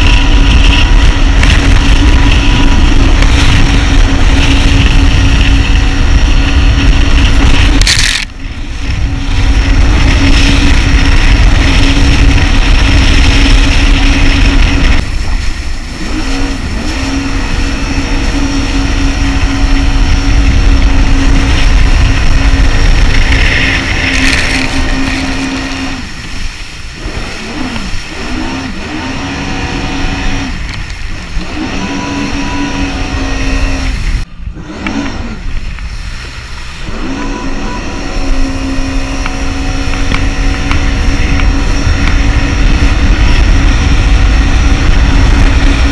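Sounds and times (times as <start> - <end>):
jet ski engine running: 0.0 - 45.9.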